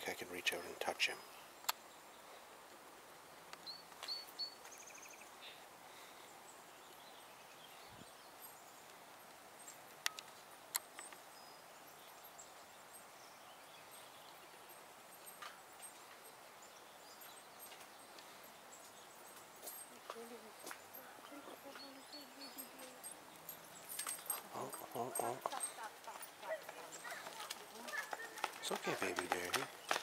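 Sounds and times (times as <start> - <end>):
low steady hiss: 0.0 - 26.2.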